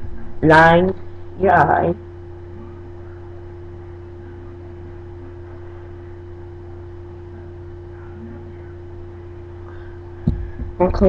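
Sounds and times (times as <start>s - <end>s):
electrical hum: 0.0s - 11.0s
faint room noise: 0.0s - 11.0s.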